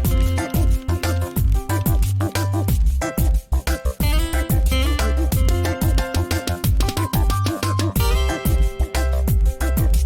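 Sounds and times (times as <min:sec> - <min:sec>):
upbeat music with plucked guitar: 0:00.0 - 0:10.0.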